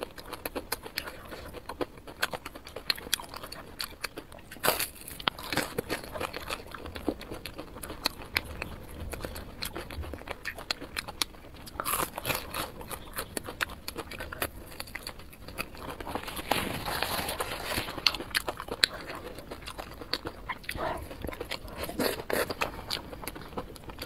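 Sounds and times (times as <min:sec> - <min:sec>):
person chewing meat: 0:00.0 - 0:24.0.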